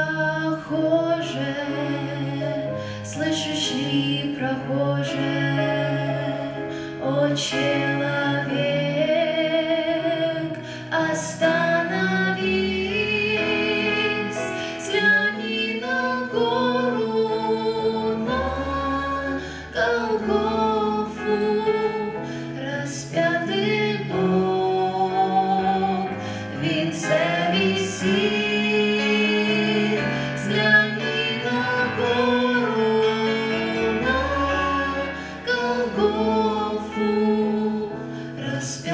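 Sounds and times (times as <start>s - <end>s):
instrumental accompaniment: 0.0s - 38.9s
voices singing: 0.0s - 38.9s.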